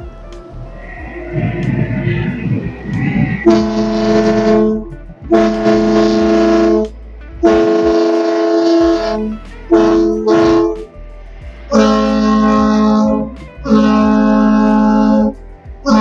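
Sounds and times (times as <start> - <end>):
long horn blasts: 0.0 - 16.0
mixed commotion: 0.0 - 16.0.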